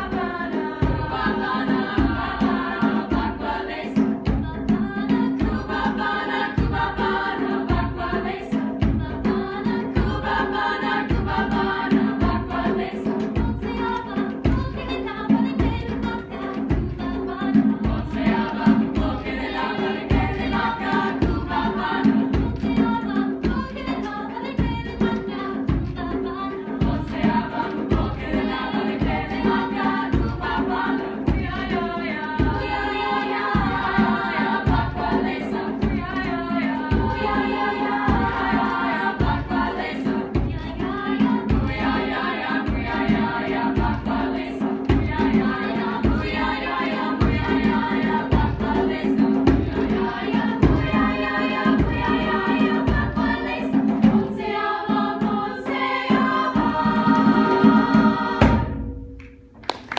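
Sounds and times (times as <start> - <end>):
women's choir singing: 0.0 - 58.9.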